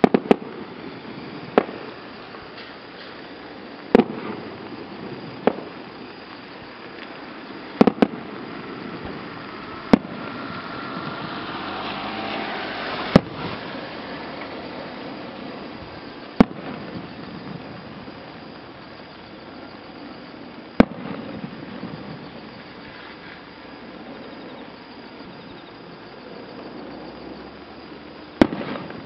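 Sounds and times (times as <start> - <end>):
firework shells bursting: 0.0 - 29.0.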